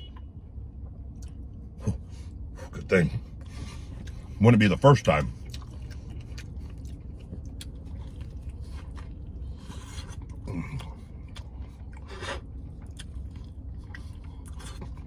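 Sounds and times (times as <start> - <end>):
steady low hum: 0.0 - 15.0
person chewing food: 0.8 - 2.5, 3.4 - 4.4, 5.2 - 15.0.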